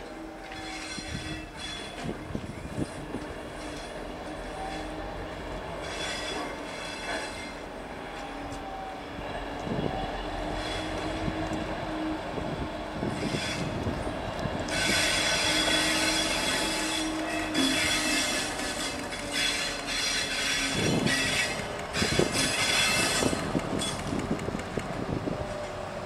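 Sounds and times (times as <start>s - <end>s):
diesel locomotive engine hum: 0.0s - 26.0s
hissing wheel and rail noise: 0.0s - 26.0s.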